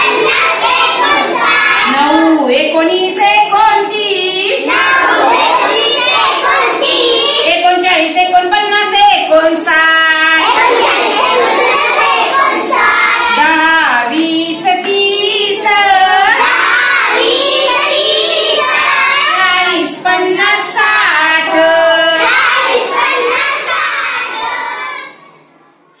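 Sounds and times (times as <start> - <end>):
girl singing: 0.0 - 7.9, 9.5 - 25.1.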